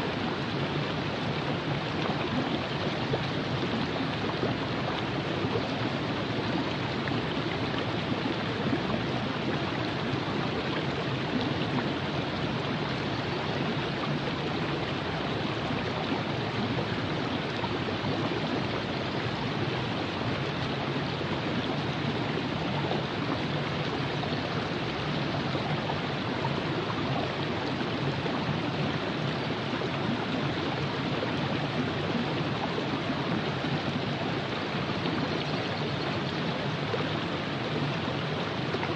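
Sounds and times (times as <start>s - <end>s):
river flowing over rocks: 0.0s - 38.9s.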